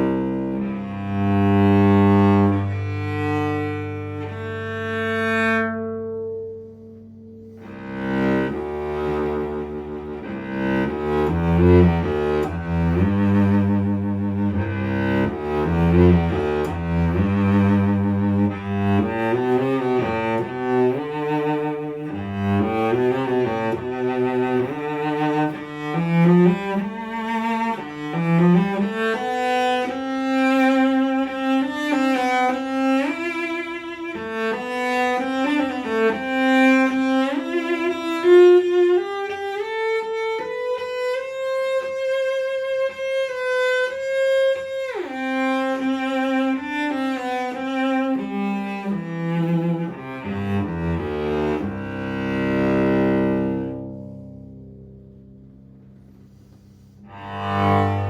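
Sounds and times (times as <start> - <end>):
cello bowed with vibrato: 0.0 - 39.8, 42.8 - 58.0.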